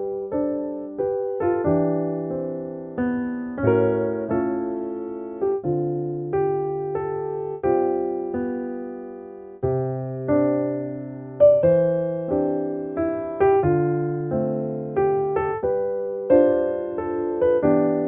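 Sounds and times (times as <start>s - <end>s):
gentle solo piano piece: 0.0s - 18.0s.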